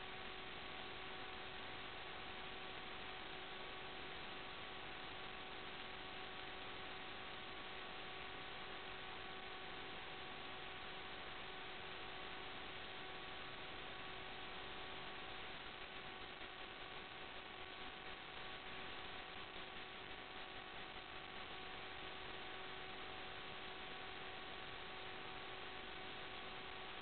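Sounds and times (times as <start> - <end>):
electronic hiss: 0.0 - 27.0
faint thin-toned hum: 0.0 - 27.0.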